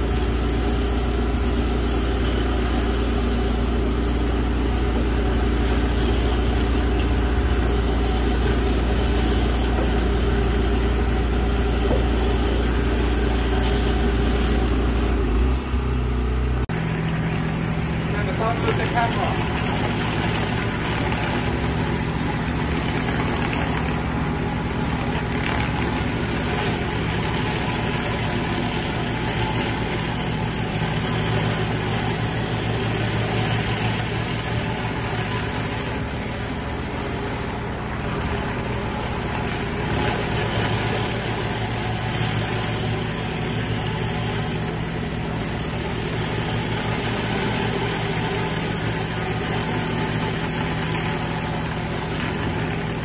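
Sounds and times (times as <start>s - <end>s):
water jets hissing on paving: 0.0s - 15.3s, 16.7s - 53.0s
pressure washer engine running: 0.0s - 53.0s.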